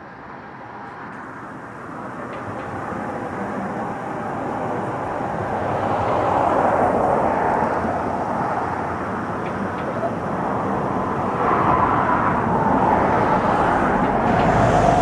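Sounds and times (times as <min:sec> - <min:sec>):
vehicle passing: 0:01.5 - 0:15.0.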